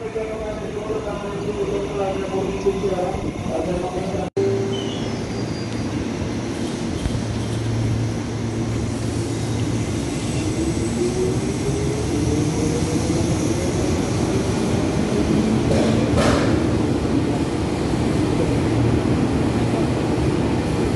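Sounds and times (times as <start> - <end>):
electric train rumbling: 0.0 - 20.9.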